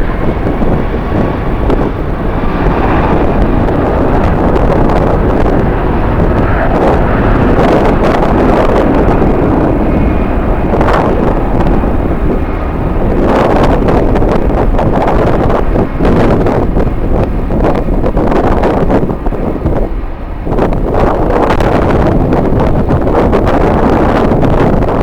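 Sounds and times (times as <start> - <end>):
jet engine noise: 0.0 - 25.0
wind buffeting microphone: 0.0 - 25.0.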